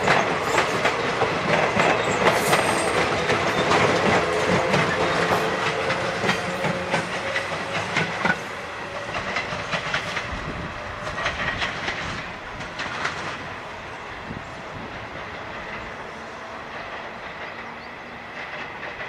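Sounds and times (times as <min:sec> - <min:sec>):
wheels clicking over rail joints: 0:00.0 - 0:13.6, 0:14.3 - 0:19.0
train running past: 0:00.0 - 0:19.0.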